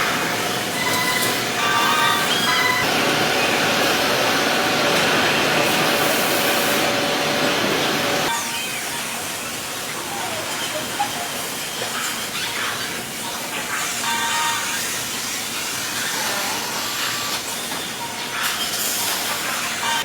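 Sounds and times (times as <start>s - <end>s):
factory machinery hissing: 0.0s - 20.0s.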